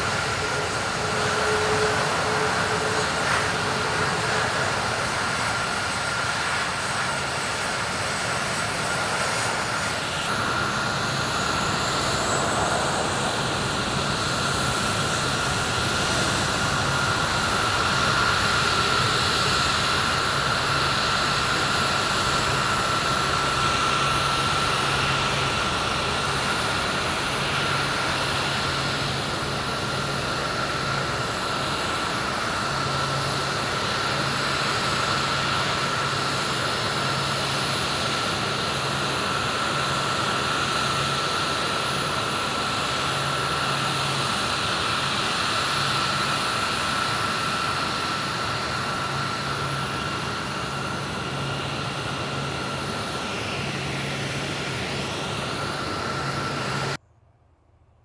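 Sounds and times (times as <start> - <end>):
jet engines rushing: 0.0 - 57.0
high engine whine: 0.0 - 58.0.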